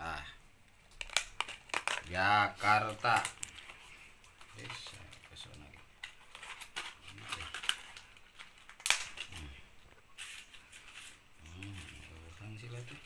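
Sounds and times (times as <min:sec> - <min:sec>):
plastic packets rustling: 0:00.9 - 0:13.0.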